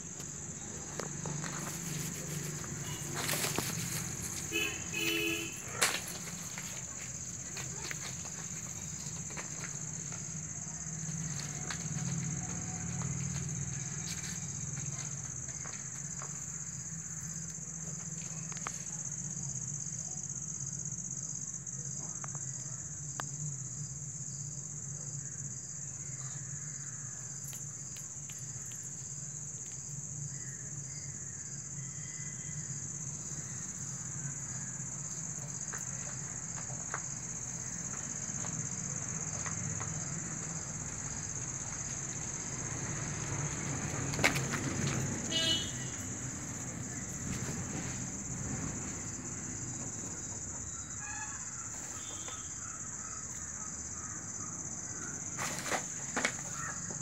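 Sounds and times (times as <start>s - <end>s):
night insects chirring: 0.0s - 57.0s.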